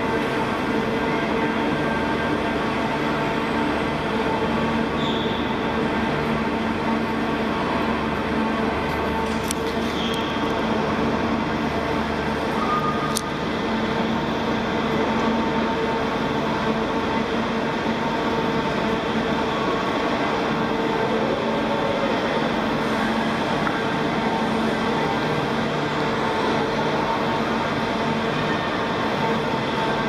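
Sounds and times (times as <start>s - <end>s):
machinery droning hum: 0.0s - 30.0s.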